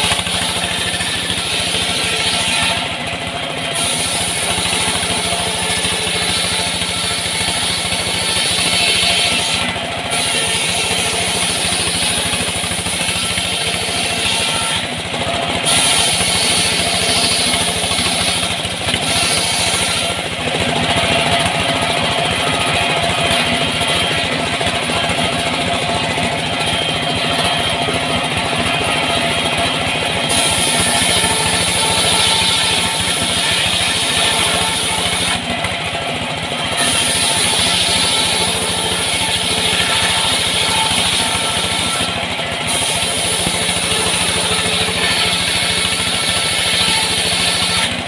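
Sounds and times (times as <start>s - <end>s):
engine drone: 0.0s - 48.0s
saw cutting wood: 0.0s - 48.0s.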